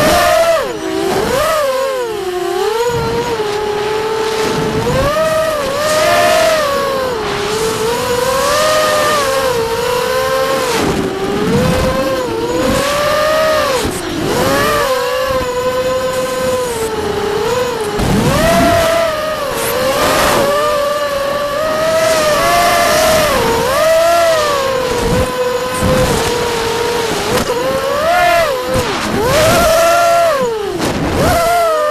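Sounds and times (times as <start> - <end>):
quadcopter propellers whining: 0.0 - 31.9
wind rush: 2.1 - 31.6.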